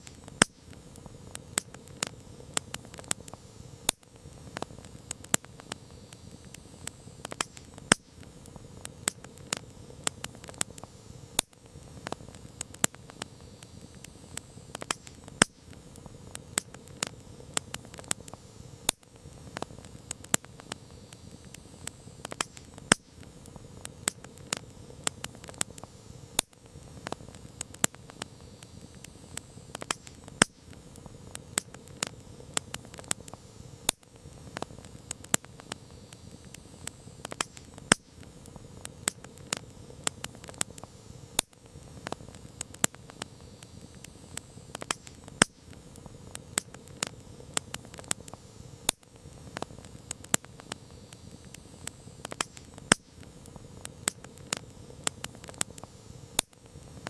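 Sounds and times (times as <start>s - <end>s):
campfire crackling and popping: 0.0s - 57.0s
hiss of burning: 0.0s - 57.0s.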